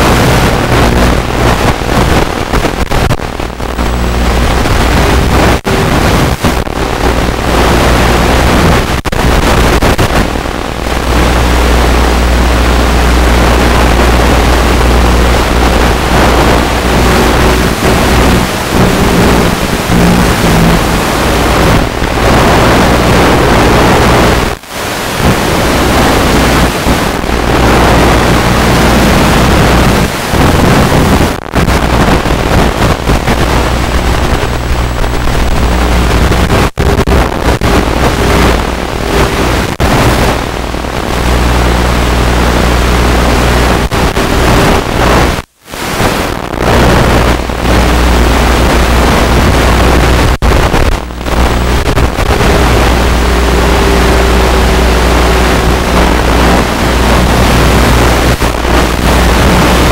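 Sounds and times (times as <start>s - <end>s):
radio static: 0.0s - 59.9s.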